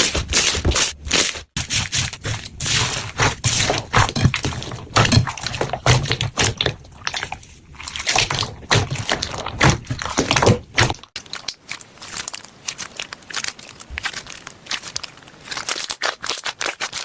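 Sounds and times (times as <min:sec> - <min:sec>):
slime crackling: 0:00.0 - 0:17.0
slime squelching by hand: 0:00.0 - 0:17.0.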